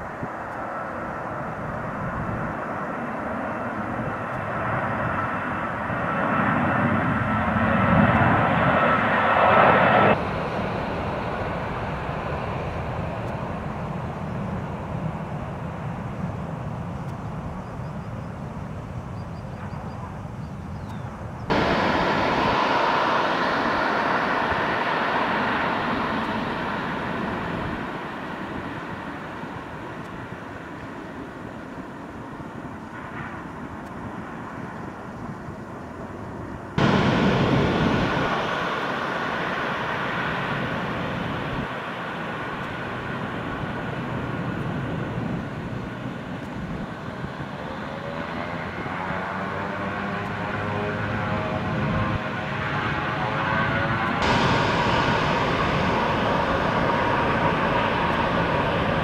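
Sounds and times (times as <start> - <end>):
jet engine roar: 0.0 - 59.0
landing airliner jet noise: 0.0 - 59.0.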